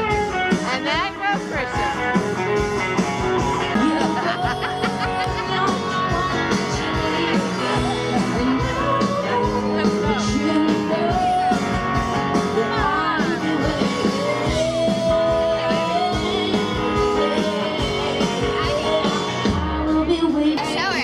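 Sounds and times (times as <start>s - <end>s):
live rock band playing: 0.0s - 21.0s
person singing: 3.6s - 21.0s.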